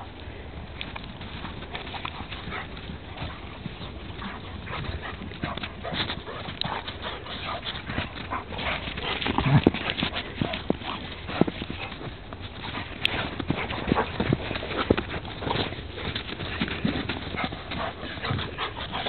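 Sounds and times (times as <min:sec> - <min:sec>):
dogs play-fighting noises: 0:00.0 - 0:19.0
paws scuffling in snow: 0:01.1 - 0:19.0.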